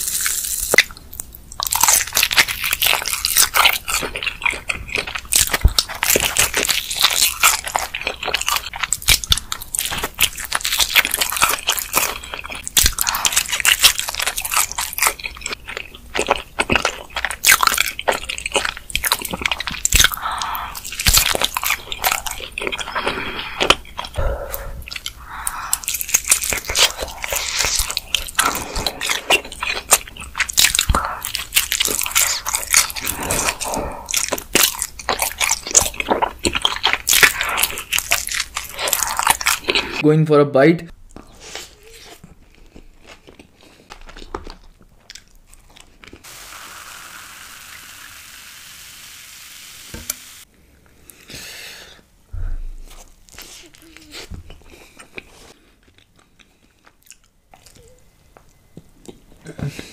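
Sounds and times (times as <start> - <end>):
chewing pizza crust: 1.6 - 40.0, 41.1 - 46.3, 52.8 - 59.9.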